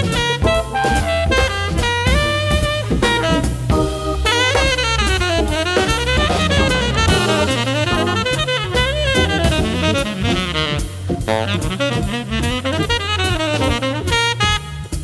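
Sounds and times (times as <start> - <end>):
drum kit: 0.0 - 15.0
saxophone melody: 0.0 - 15.0
walking bass line: 0.0 - 15.0.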